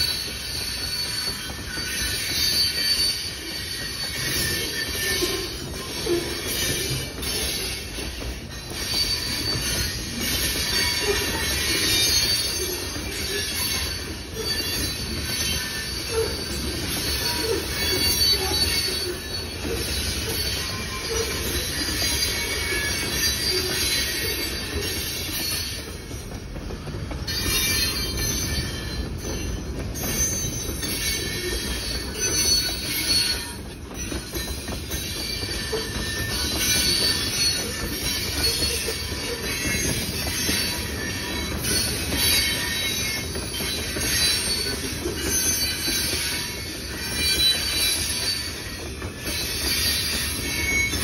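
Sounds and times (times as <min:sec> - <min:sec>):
train wheels rumbling on rail: 0:00.0 - 0:51.0
wheels clattering over rail joints: 0:00.0 - 0:51.0.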